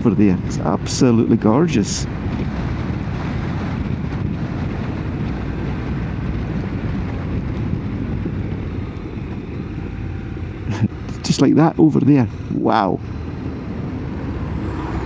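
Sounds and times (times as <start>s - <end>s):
motorcycle engine running: 0.0s - 14.7s
wind rush on microphone: 0.0s - 15.0s.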